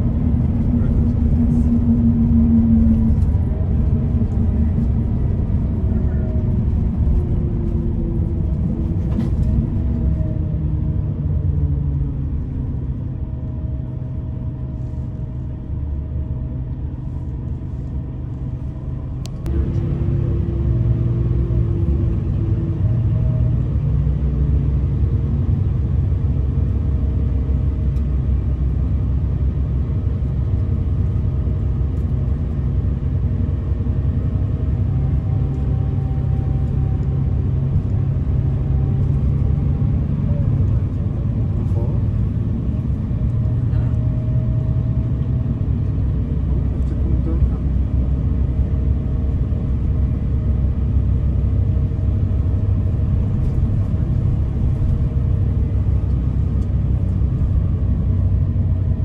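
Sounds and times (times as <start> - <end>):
diesel engine and road rumble: 0.0 - 59.0.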